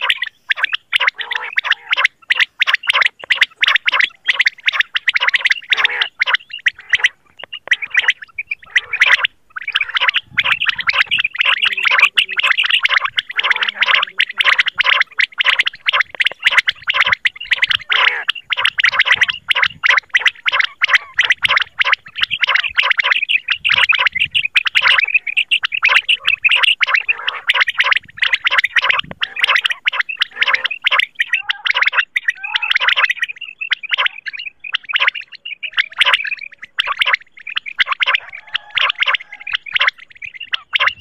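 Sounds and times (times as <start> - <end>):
quail calls: 0.0 - 41.0.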